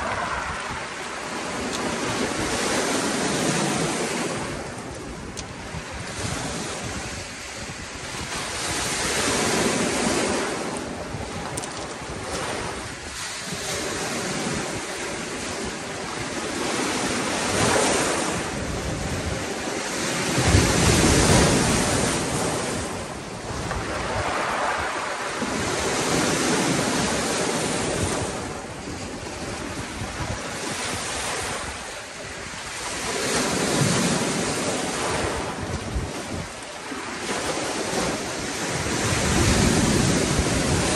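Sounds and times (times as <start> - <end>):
waves breaking on pebble shore: 0.0 - 40.9.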